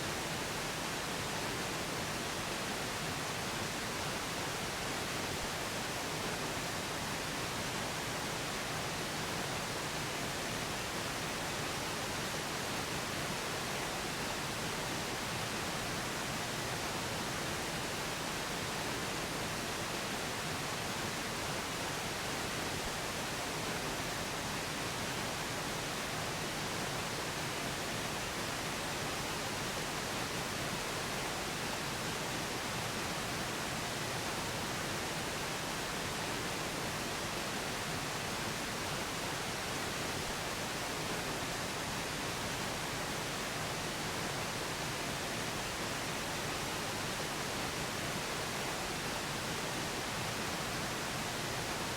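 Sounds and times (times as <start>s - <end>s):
steady pink noise hiss: 0.0s - 51.9s.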